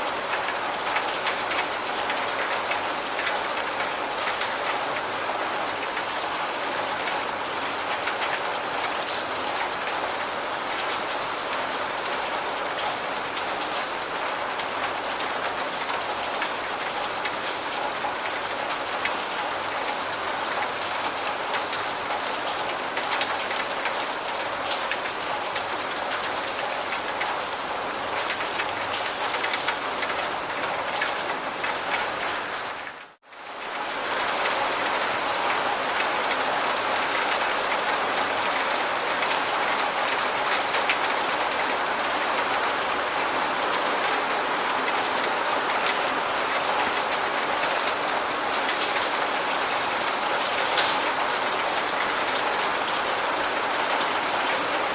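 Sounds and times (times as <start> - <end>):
rain falling: 0.0 - 54.9.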